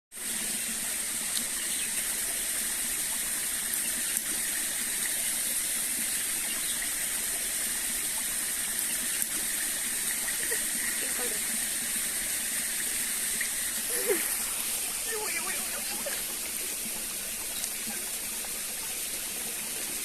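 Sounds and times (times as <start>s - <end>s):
water rushing at waterfall: 0.2s - 20.0s.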